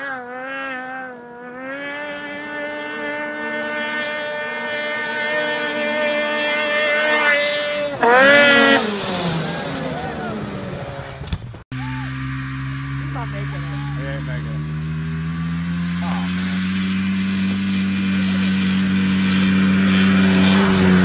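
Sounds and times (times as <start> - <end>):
snowmobile engine at high revs: 0.0 - 21.0.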